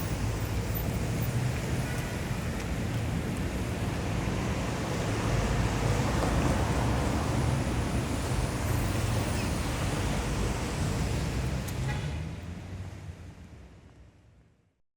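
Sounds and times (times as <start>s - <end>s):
tyres rushing on asphalt: 0.0s - 13.9s
hum of engines: 0.0s - 14.8s.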